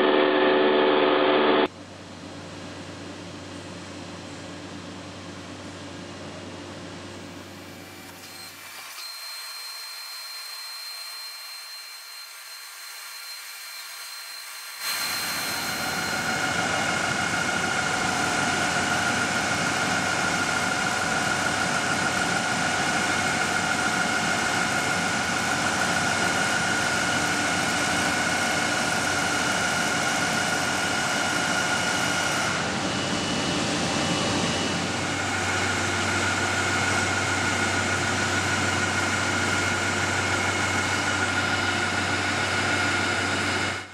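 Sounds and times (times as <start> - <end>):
machine tools humming and whining: 0.0 - 43.9.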